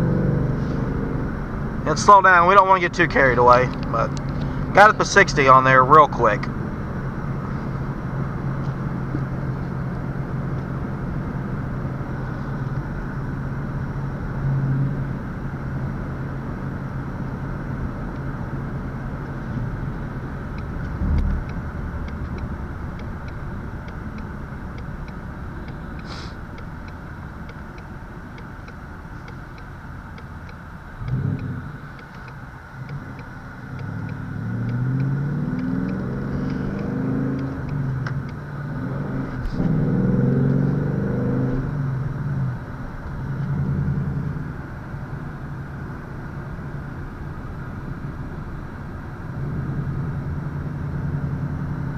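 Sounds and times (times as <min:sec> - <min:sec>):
car engine droning in cabin: 0:00.0 - 0:51.9.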